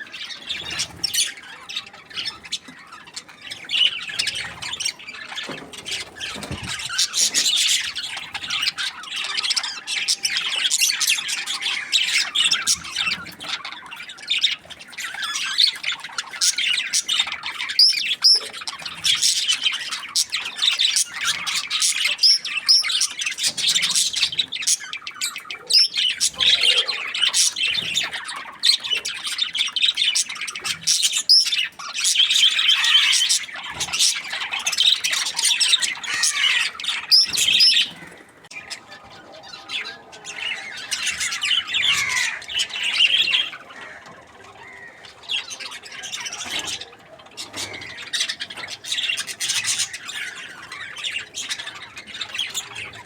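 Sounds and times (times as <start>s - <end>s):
budgerigars chirping and squawking: 0.0s - 53.0s
sharp bird calls and clicks: 0.0s - 53.0s.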